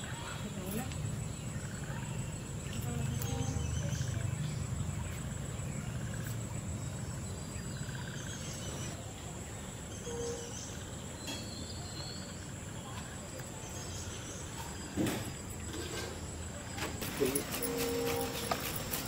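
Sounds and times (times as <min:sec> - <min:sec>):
bird chirps: 0:00.0 - 0:15.3.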